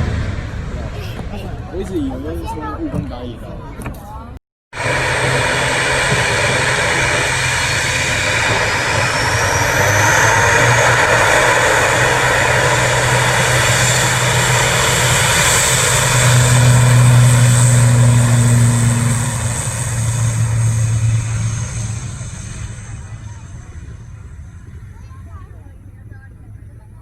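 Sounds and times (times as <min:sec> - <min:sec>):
airliner engines roaring: 0:00.0 - 0:27.0
thin rising engine whine: 0:04.8 - 0:26.7.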